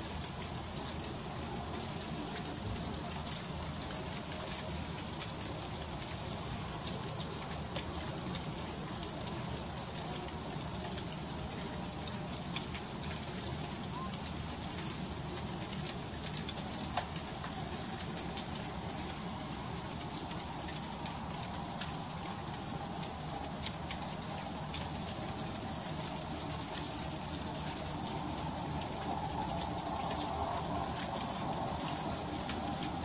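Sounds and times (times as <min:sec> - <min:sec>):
freezing rain ticking: 0:00.0 - 0:33.0.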